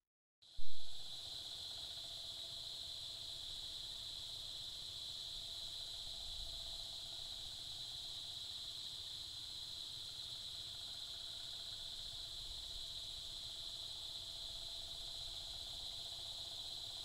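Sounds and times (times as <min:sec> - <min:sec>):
insects chirping: 0:00.8 - 0:17.0.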